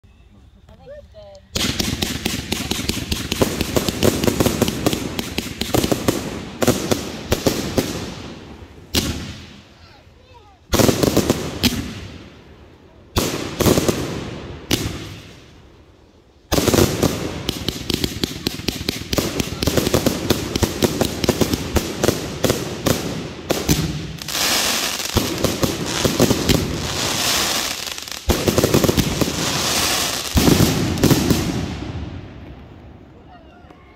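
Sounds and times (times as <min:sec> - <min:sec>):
crackling hiss of fireworks: 0:00.0 - 0:33.9
fireworks launching and banging: 0:01.5 - 0:09.8, 0:10.6 - 0:12.4, 0:13.1 - 0:15.6, 0:16.5 - 0:33.2.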